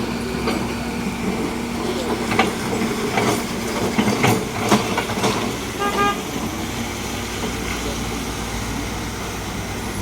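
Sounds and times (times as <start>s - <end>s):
heavy vehicle engines running: 0.0s - 10.0s.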